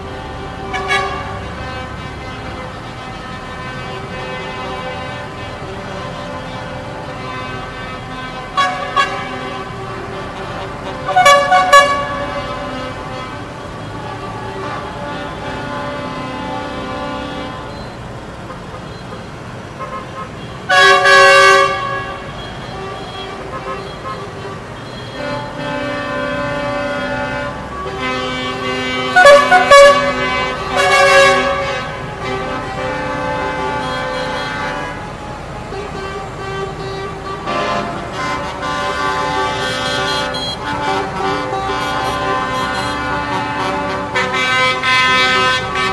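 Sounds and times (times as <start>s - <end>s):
engines droning: 0.0s - 45.9s
vehicle horns tooting: 0.0s - 45.9s.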